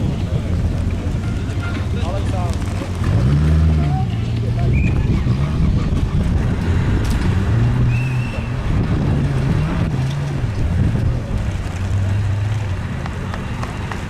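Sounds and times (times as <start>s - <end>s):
vehicle engine under load: 0.0s - 14.0s
wind rumbling on microphone: 0.0s - 14.0s.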